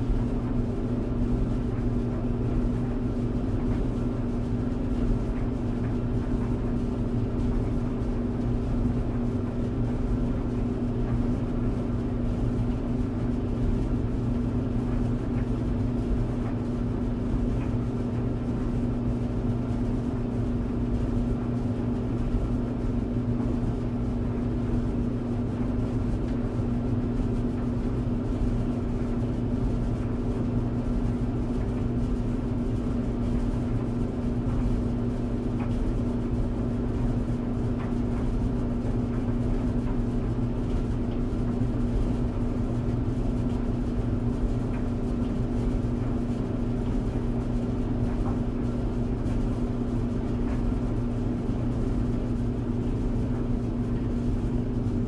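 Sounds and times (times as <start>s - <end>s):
dryer drum rumbling: 0.0s - 55.0s
tumble dryer motor hum: 0.0s - 55.0s.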